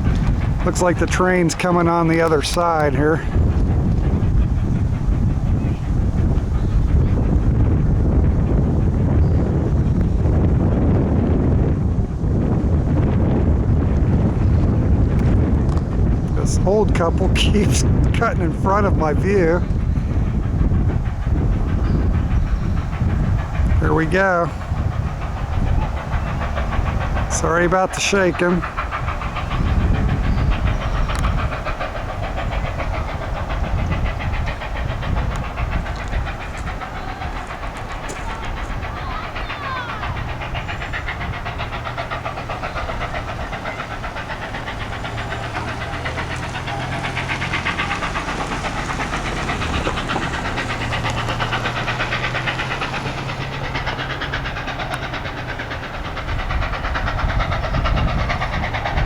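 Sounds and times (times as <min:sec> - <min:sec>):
steam hissing: 0:00.0 - 0:10.5, 0:13.5 - 0:59.0
train rumbling: 0:00.0 - 0:59.0
wind buffeting microphone: 0:00.0 - 0:59.0.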